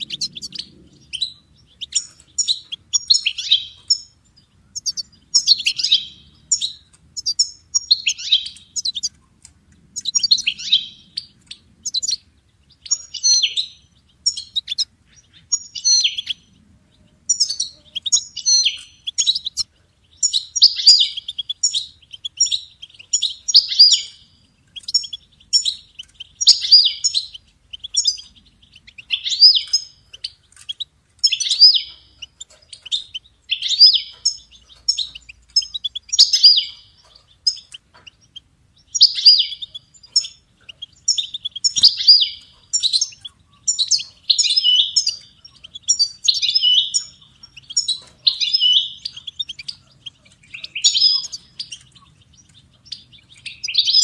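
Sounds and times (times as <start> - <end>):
finch singing high twittering: 0.0 - 54.0.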